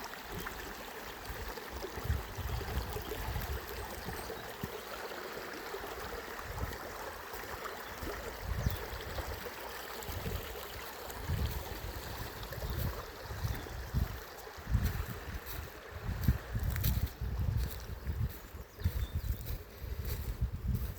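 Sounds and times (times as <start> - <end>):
river water flowing over rocks: 0.0 - 17.3.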